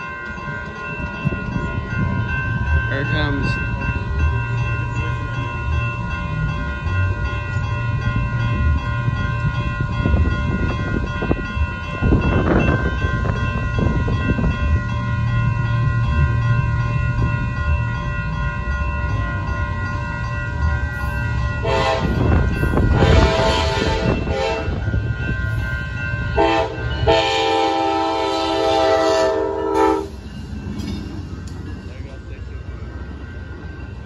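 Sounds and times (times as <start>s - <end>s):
crossing warning bell ringing: 0.0s - 34.0s
train rumble: 0.0s - 34.0s.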